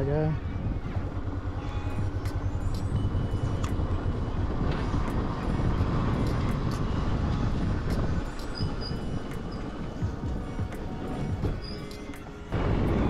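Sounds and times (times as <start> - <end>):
motorcycle engine: 0.0 - 13.0
wind buffeting microphone: 0.0 - 13.0.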